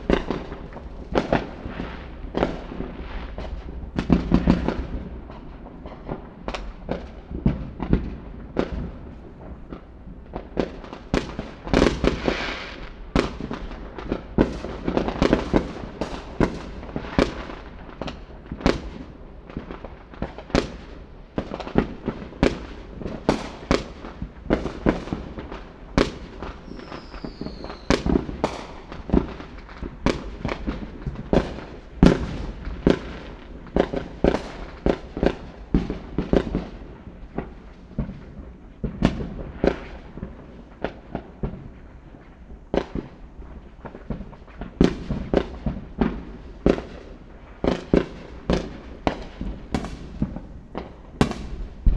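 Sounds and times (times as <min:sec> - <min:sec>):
fireworks bangs and pops: 0:00.0 - 0:51.9.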